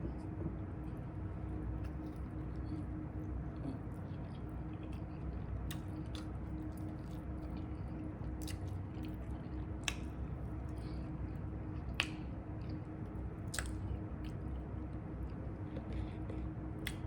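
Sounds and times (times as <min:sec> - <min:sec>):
steady low hum: 0:00.0 - 0:17.0
crunchy chewing: 0:00.8 - 0:17.0.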